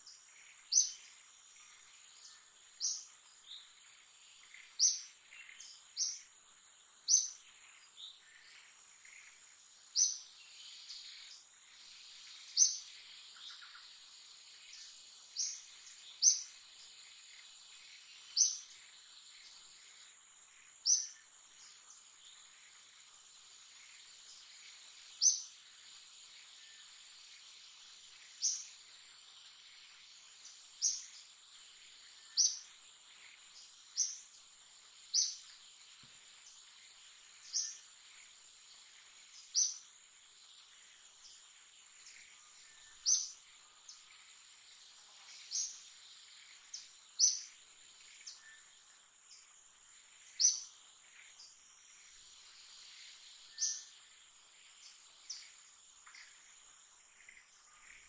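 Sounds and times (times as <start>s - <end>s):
high-pitched insect drone: 7.2s - 58.0s.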